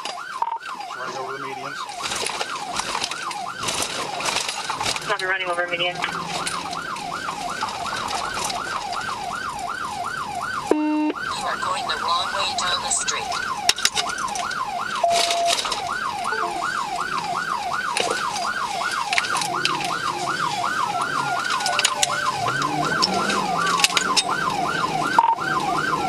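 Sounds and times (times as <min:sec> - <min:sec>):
police siren yelping: 0:00.0 - 0:26.0.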